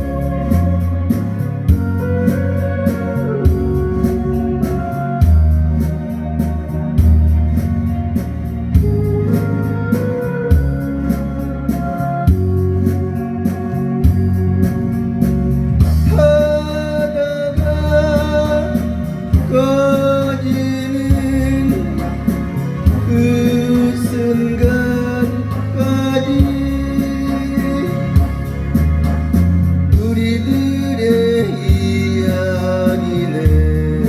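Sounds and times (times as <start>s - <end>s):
bass line: 0.0s - 34.0s
drum machine beat: 0.0s - 34.0s
electronic organ melody: 0.0s - 34.0s.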